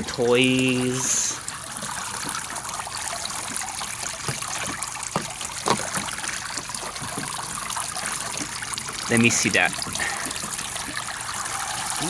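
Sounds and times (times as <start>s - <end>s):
small water splashes: 0.0s - 12.0s
water trickling: 0.0s - 12.0s.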